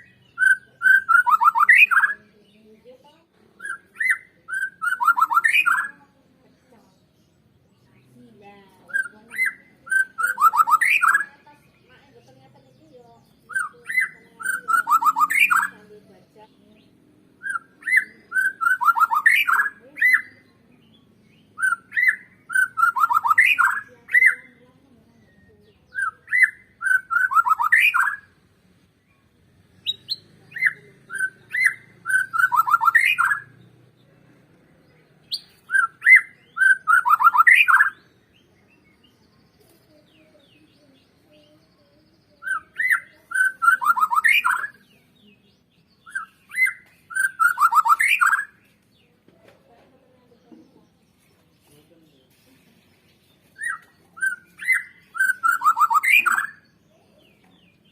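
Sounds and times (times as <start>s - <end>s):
bird whistling song: 0.0s - 2.7s, 3.5s - 6.0s, 8.8s - 11.8s, 13.1s - 15.9s, 16.8s - 28.4s, 29.8s - 33.7s, 34.8s - 49.1s, 52.3s - 57.9s.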